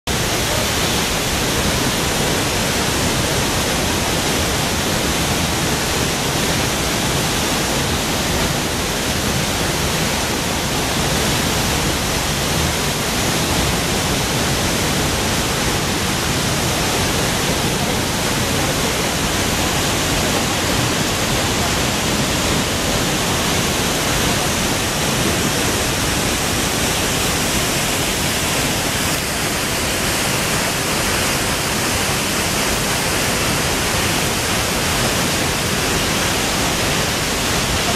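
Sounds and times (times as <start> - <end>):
waterfall rushing: 0.1 - 37.9.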